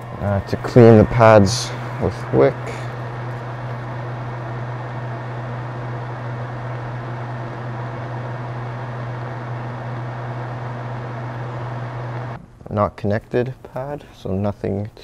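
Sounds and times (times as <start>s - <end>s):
extractor fan humming: 0.0s - 12.4s.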